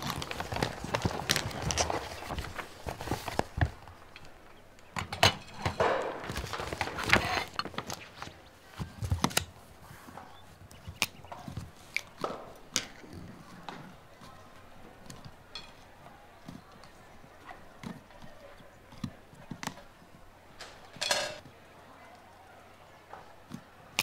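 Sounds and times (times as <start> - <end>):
rustling: 0.0 - 21.5.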